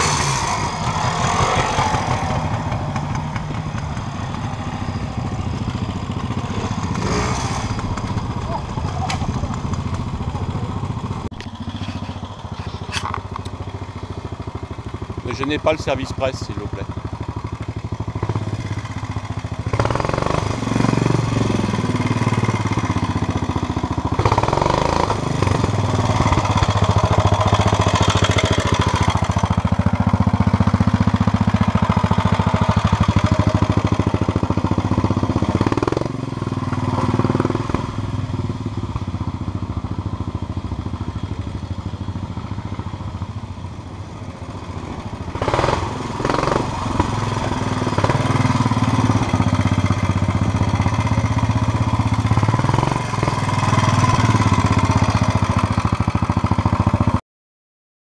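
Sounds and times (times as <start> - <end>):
motorcycle engine revving: 0.0 - 57.2.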